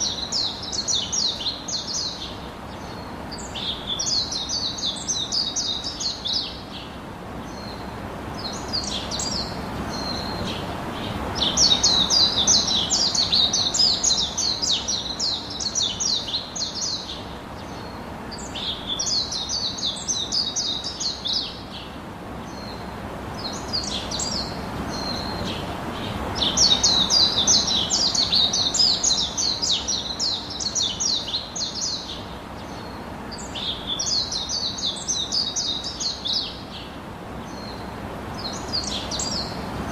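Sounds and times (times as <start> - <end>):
birds chirping: 0.0 - 39.9
low background hiss: 0.0 - 39.9.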